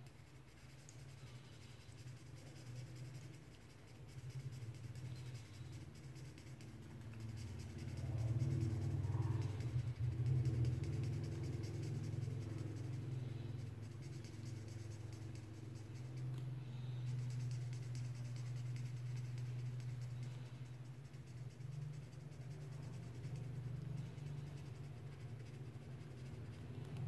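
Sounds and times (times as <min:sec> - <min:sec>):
low steady hum: 0:00.0 - 0:27.0
marker scratching on paper: 0:00.0 - 0:27.0.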